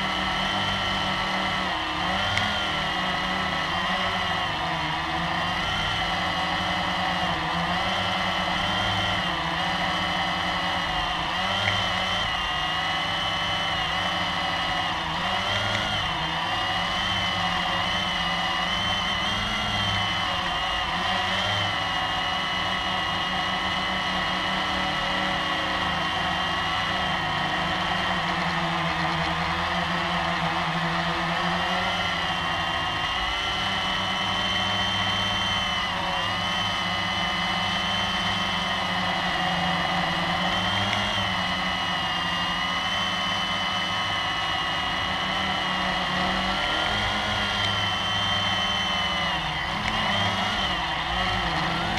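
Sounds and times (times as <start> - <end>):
quadcopter motors whining: 0.0 - 51.9.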